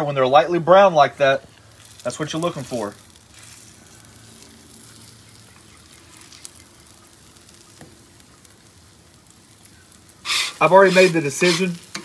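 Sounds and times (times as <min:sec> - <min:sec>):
cakes sizzling in oil: 0:00.0 - 0:12.0.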